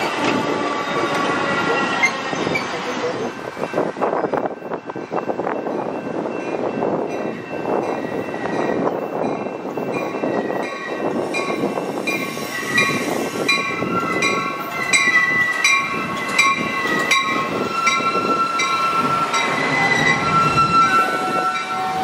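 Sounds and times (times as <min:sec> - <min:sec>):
train wheels rumbling and squealing: 0:00.0 - 0:22.0.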